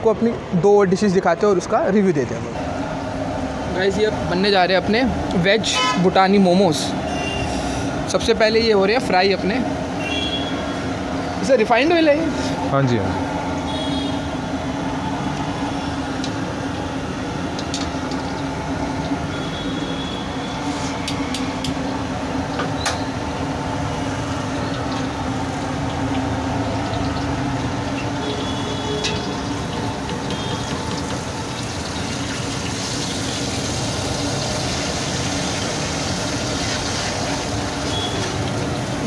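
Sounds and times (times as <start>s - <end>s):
gas burner roar: 2.4s - 39.0s
hot oil sizzling: 2.6s - 39.0s.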